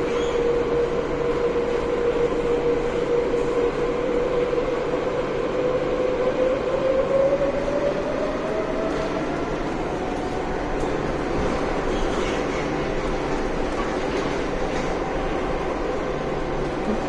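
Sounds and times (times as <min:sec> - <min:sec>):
train rolling noise: 0:00.0 - 0:17.0.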